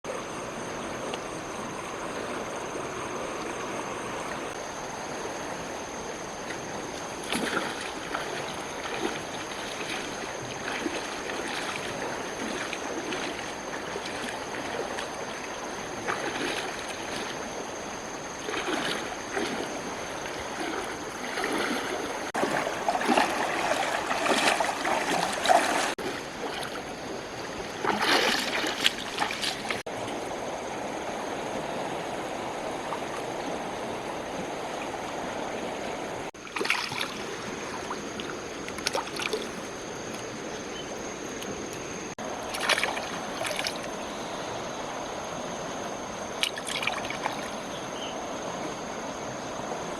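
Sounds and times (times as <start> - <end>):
water splashing and sloshing: 0.0 - 49.9.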